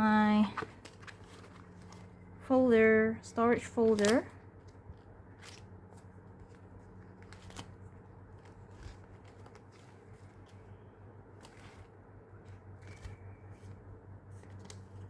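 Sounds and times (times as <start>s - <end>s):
paper and plastic sleeves rustling: 0.0s - 2.3s, 3.6s - 15.0s
steady low hum: 0.0s - 15.0s.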